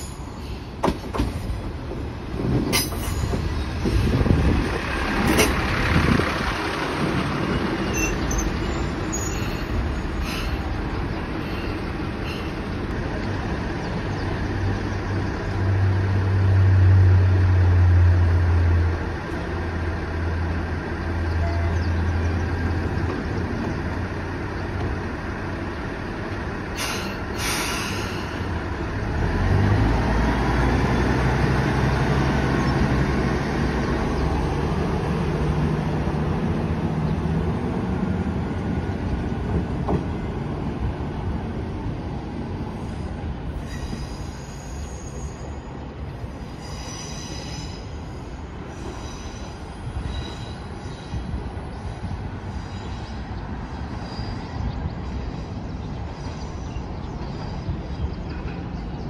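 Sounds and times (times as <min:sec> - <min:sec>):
train humming: 0:00.0 - 0:59.0.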